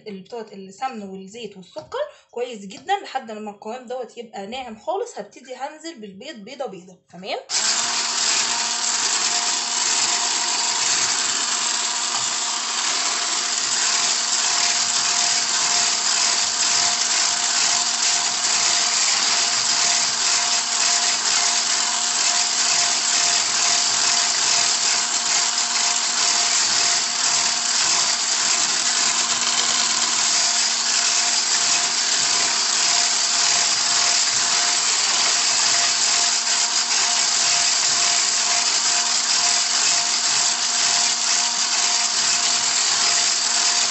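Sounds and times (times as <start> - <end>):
electric hand mixer whirring: 7.5 - 43.9.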